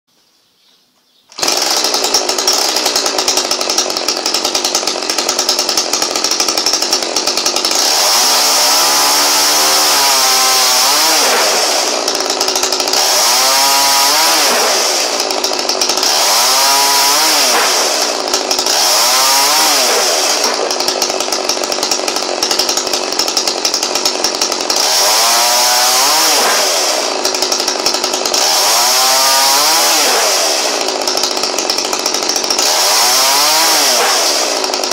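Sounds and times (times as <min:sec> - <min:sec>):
chainsaw cutting branches: 0:01.3 - 0:34.9
chainsaw running at high revs: 0:01.3 - 0:34.9.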